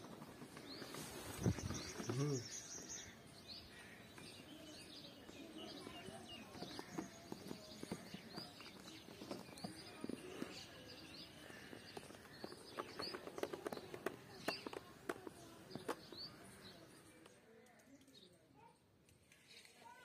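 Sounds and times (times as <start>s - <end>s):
small bird chirping: 0.1s - 18.8s.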